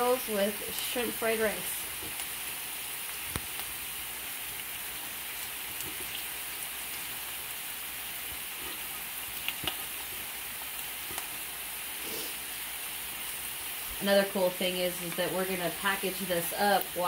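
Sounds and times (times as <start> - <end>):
food sizzling in a wok: 0.0 - 17.0.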